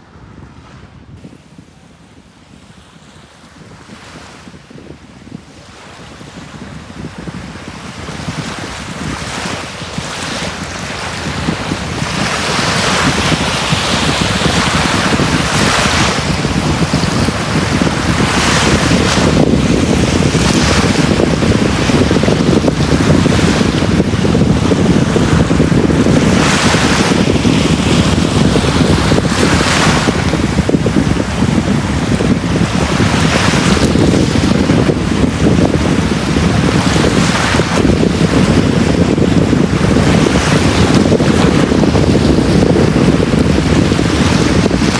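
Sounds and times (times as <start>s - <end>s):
wind rumble on microphone: 0.0s - 44.9s
sea waves breaking on beach: 1.2s - 44.9s.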